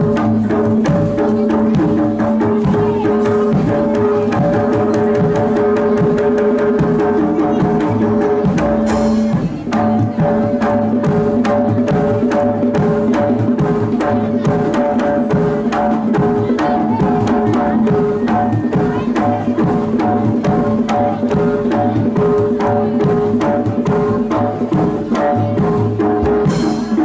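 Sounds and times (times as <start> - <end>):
hand drum strokes: 0.0 - 27.0.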